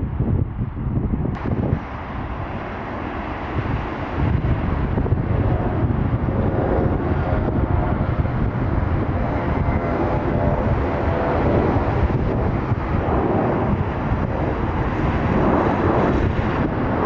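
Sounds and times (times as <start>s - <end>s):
gusty wind on microphone: 0.0s - 17.0s
jet aircraft noise: 0.0s - 17.0s.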